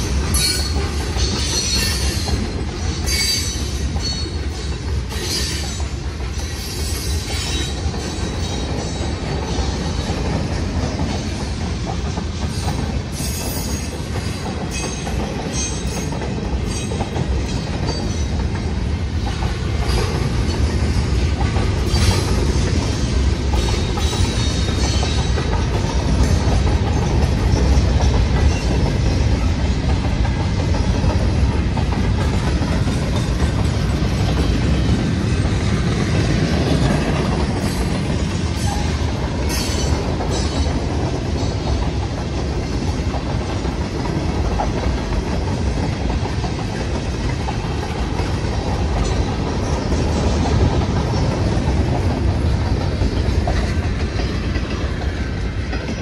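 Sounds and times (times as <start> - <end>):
wheels clacking over rail joints: 0.0 - 56.0.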